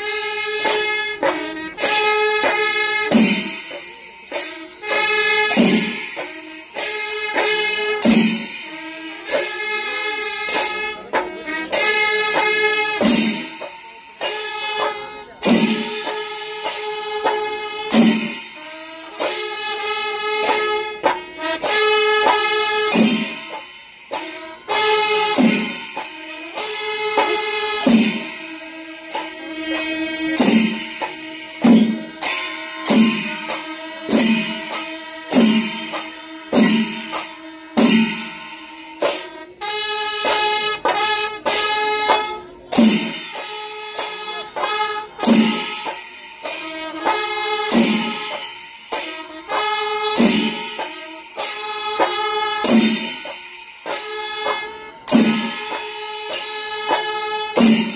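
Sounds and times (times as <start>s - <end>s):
drums beating: 0.0s - 57.9s
hand cymbals: 0.0s - 57.9s
wind instrument melody: 0.0s - 57.9s.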